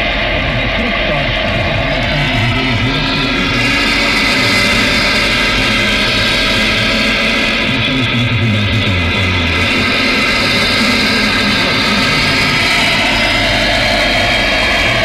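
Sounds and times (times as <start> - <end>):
low hum: 0.0 - 15.0
radio buzzing and hissing interference: 0.5 - 12.9.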